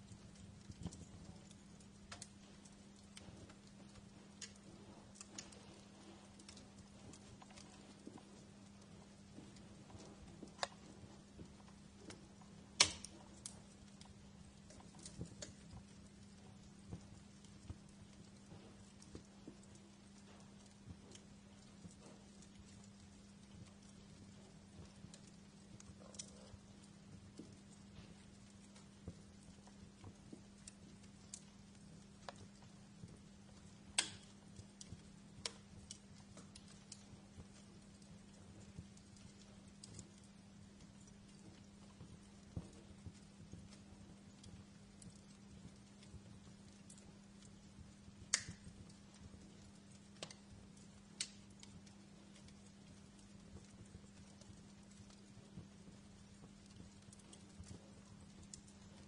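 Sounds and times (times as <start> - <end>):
loud crack of fire: 0.0 - 59.0
steady low hum: 0.0 - 59.0
wood fire crackling: 0.0 - 59.0.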